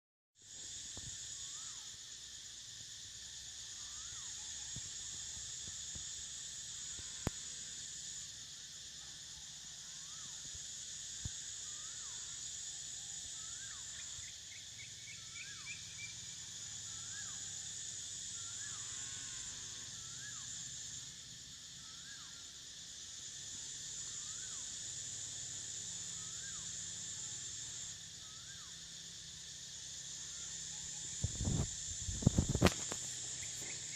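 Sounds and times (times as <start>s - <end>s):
high-pitched insect chorus: 0.4s - 33.9s.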